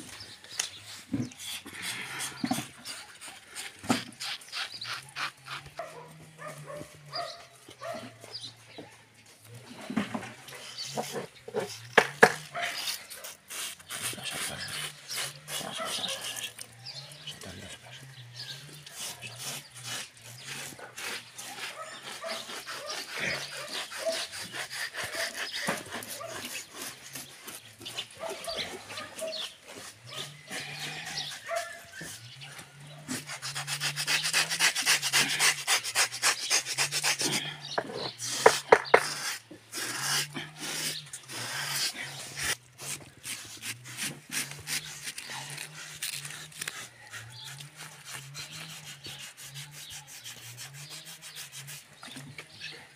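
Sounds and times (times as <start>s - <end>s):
knife scraping pig skin: 0.1s - 8.4s, 9.5s - 52.8s.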